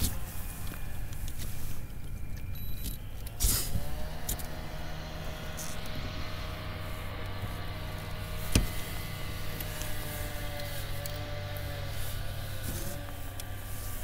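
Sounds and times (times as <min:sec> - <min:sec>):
electric trolling motor humming: 0:00.0 - 0:14.0.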